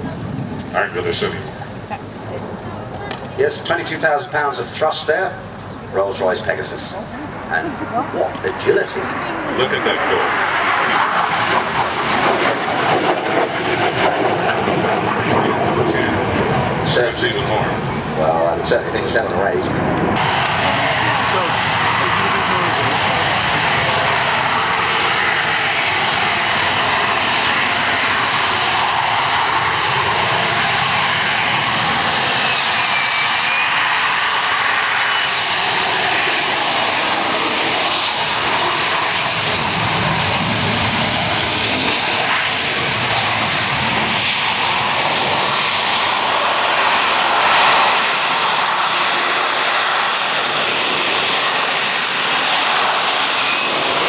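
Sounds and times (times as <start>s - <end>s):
jet engine running loud: 0.0s - 54.0s.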